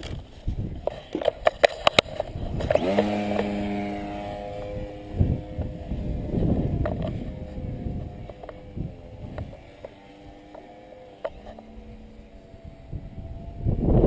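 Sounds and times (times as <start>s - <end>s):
model plane motor whine: 0.0s - 14.0s
wind on microphone: 0.0s - 14.0s.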